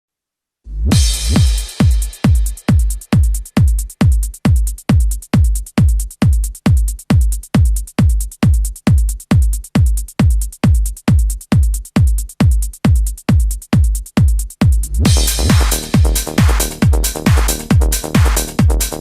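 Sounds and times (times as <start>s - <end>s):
electronic kick drum: 0.7s - 19.0s.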